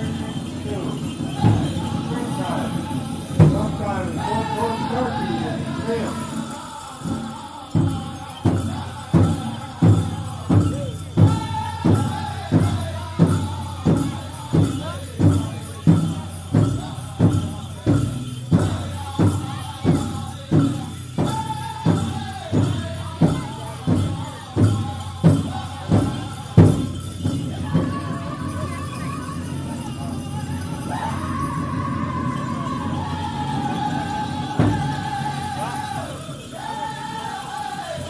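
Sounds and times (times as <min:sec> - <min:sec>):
voices singing in unison: 0:00.0 - 0:38.0.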